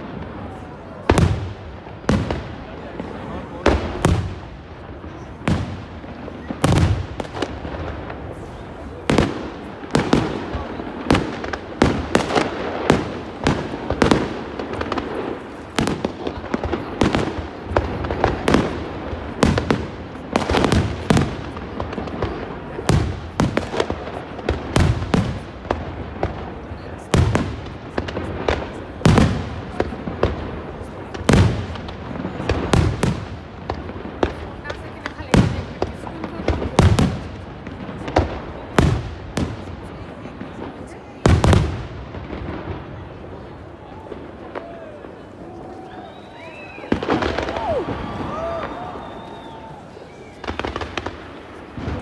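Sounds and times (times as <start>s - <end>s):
fireworks bursting with sharp bangs: 0.0s - 52.0s
fireworks rumble and crackle: 0.0s - 52.0s.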